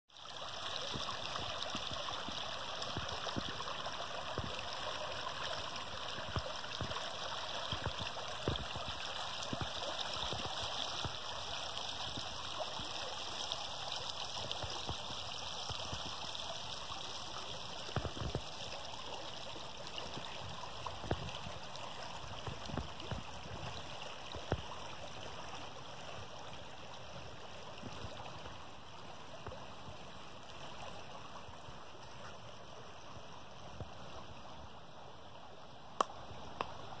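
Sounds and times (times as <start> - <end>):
creek water flowing: 0.1 - 37.0.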